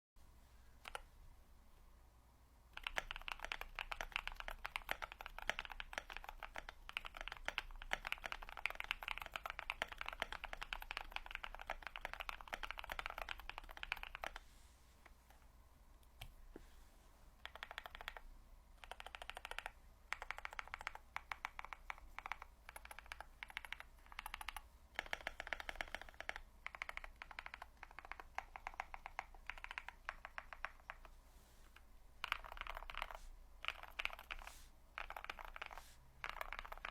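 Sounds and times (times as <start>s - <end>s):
typing on mechanical keyboard: 0.8s - 1.0s, 2.8s - 14.4s, 17.4s - 18.2s, 18.8s - 31.1s, 32.2s - 36.9s.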